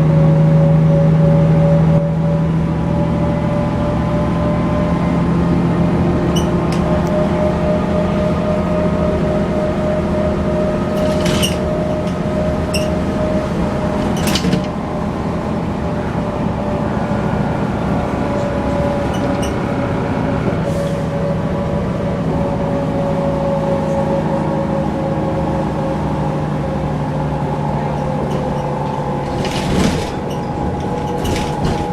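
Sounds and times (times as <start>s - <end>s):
bus engine droning with whine: 0.0s - 31.9s.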